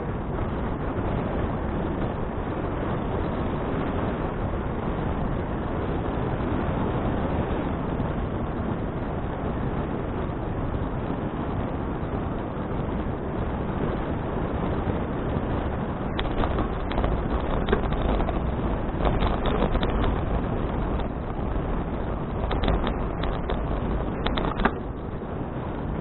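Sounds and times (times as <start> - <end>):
wind and bicycle riding noise: 0.0 - 26.0.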